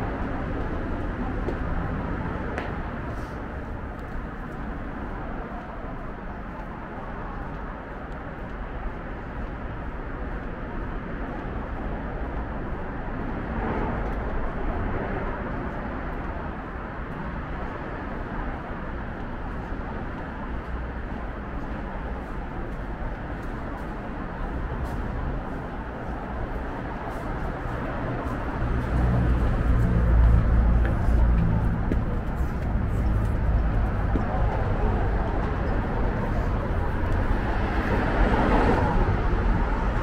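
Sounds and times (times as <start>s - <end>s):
road traffic rumble: 0.0s - 40.0s
faint footsteps: 0.1s - 39.9s.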